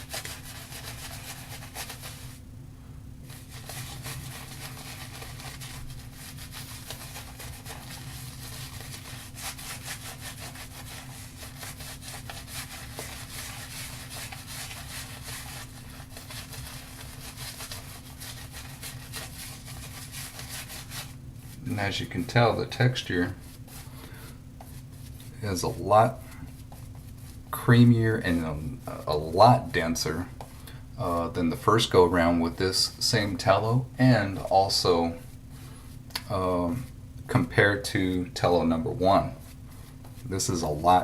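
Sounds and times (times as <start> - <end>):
shaving brush scrubbing lather: 0.0 - 2.4, 3.3 - 24.0, 24.6 - 30.2, 31.0 - 35.4
constant low hum: 0.0 - 41.0.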